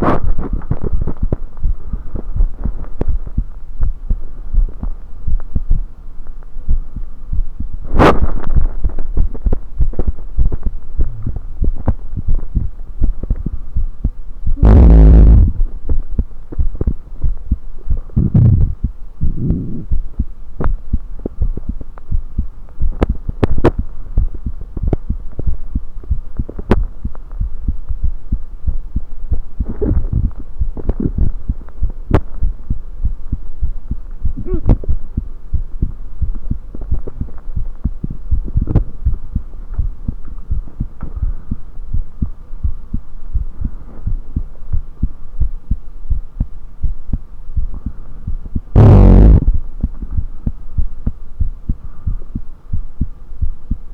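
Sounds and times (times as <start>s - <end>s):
faint steady hum: 0.0s - 53.9s
heartbeat low thumps: 0.4s - 5.9s, 8.5s - 53.9s.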